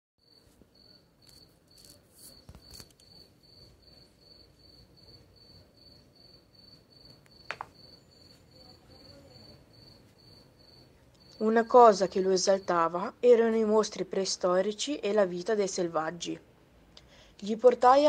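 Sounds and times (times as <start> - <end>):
faint cricket chirping: 0.2 - 18.0.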